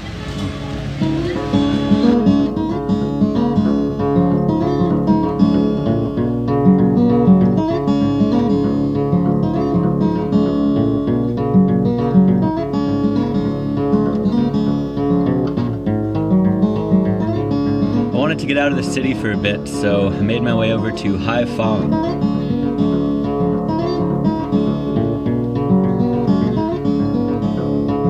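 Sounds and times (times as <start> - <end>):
acoustic guitar piece: 0.0 - 28.0.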